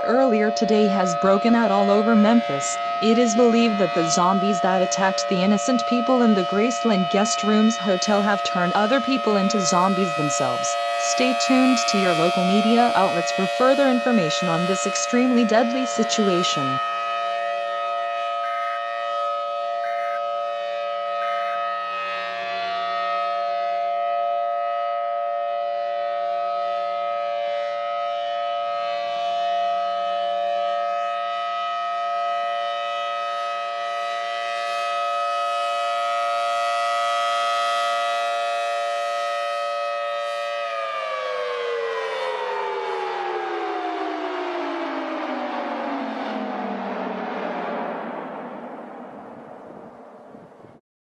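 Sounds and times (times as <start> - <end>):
warning siren steady tone: 0.0 - 50.8.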